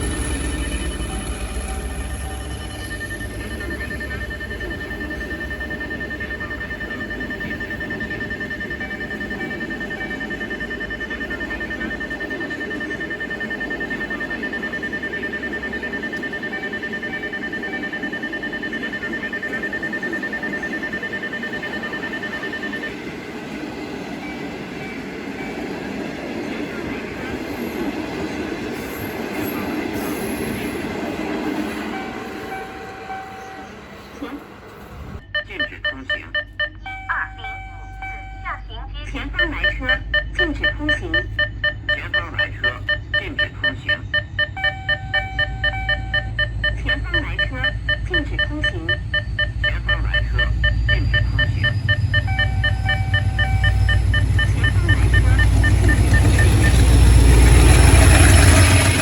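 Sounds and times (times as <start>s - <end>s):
crossing warning tone: 0.0s - 59.0s
locomotive engine rumble: 0.0s - 59.0s
rail and wheel noise: 0.0s - 59.0s.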